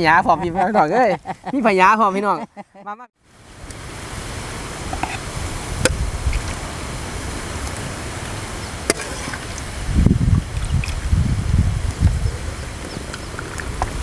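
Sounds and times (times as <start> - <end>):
wind on microphone: 0.0 - 1.4, 3.5 - 14.0.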